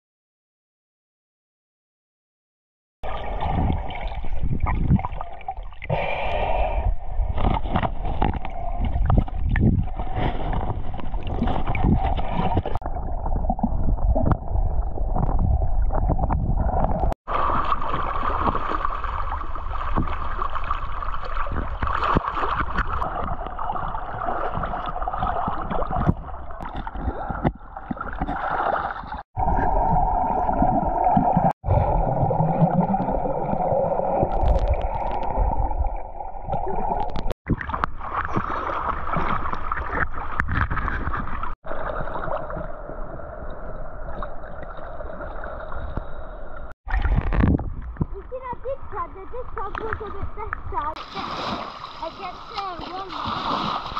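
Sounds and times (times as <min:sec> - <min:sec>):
water gurgling and sloshing: 0:03.0 - 0:53.9
muffled underwater rushing: 0:03.1 - 0:53.9.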